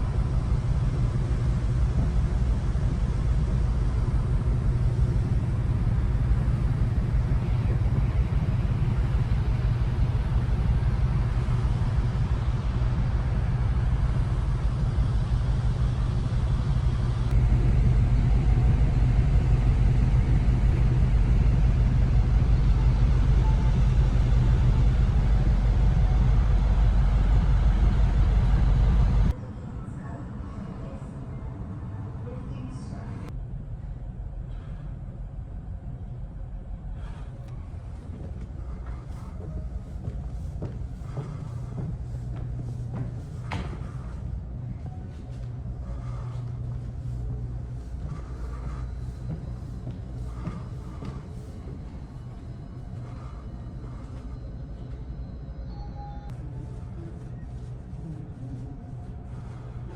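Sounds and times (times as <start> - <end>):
ferry engine low rumble: 0.0 - 59.9.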